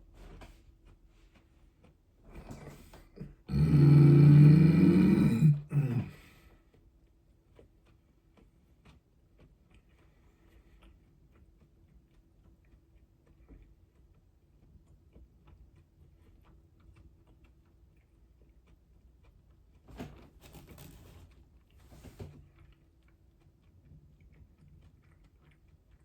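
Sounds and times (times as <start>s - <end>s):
faint chewing: 0.0s - 26.0s.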